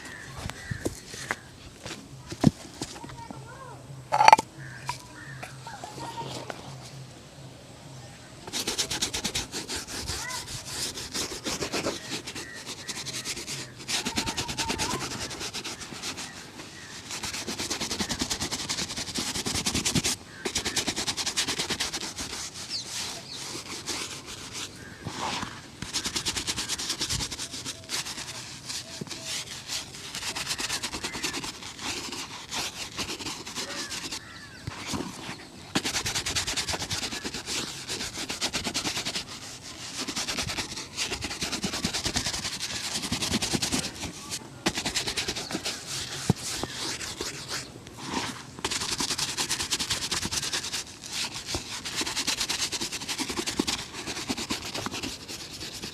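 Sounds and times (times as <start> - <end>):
shoe polishing rubbing strokes: 0.0 - 7.5, 8.4 - 55.9.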